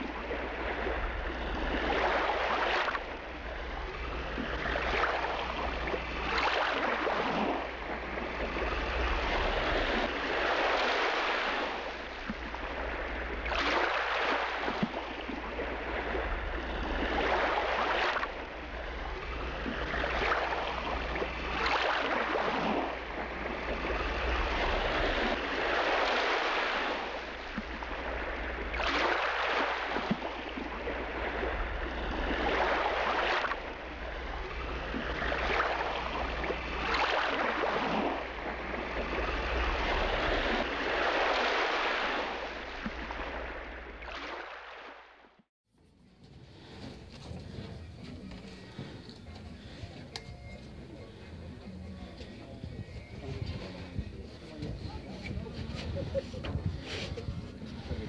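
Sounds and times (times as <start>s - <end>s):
water sloshing against boat hull: 0.0s - 58.0s.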